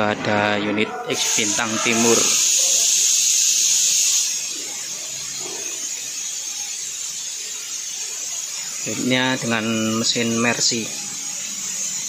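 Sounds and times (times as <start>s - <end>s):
high-pitched hiss: 1.1s - 12.0s.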